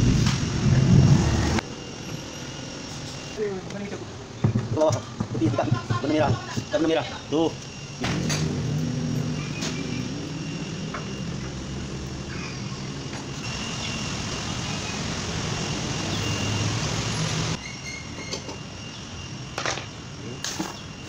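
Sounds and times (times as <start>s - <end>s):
machine humming: 0.0s - 17.6s.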